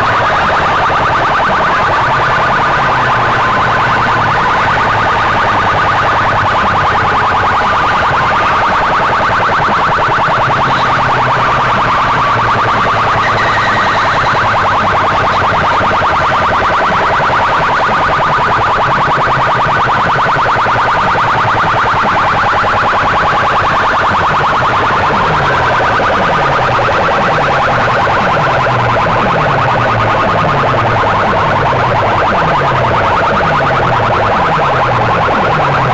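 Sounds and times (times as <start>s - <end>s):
distorted siren-like electronic tone: 0.0s - 35.9s.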